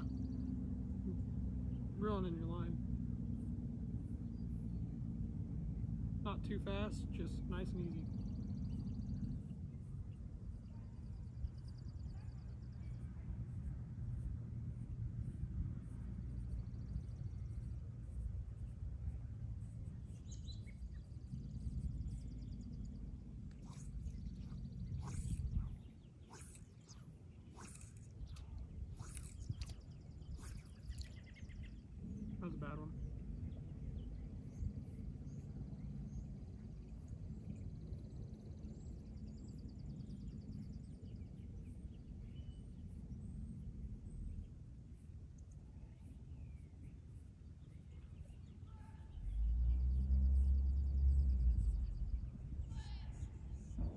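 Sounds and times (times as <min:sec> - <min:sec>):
wind rumbling on microphone: 0:00.0 - 0:46.9, 0:47.5 - 0:53.9
small birds chirping and trilling: 0:06.5 - 0:13.6, 0:15.2 - 0:53.9.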